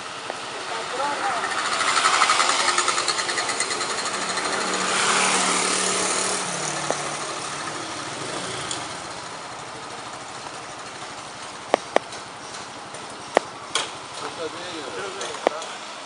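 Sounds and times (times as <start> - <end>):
diesel engine clattering: 0.0 - 16.0.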